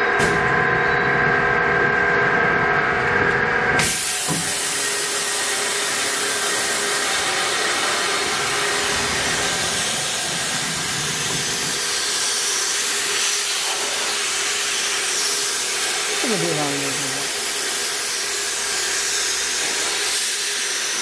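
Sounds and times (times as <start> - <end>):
machine hum: 0.0 - 20.2
coolant spray hissing: 3.8 - 21.0.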